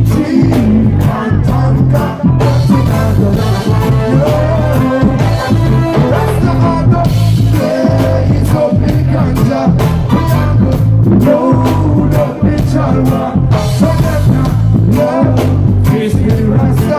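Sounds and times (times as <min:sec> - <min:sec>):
heavy bass: 0:00.0 - 0:16.9
live reggae band playing: 0:00.0 - 0:16.9
steady drum beat: 0:00.0 - 0:16.9.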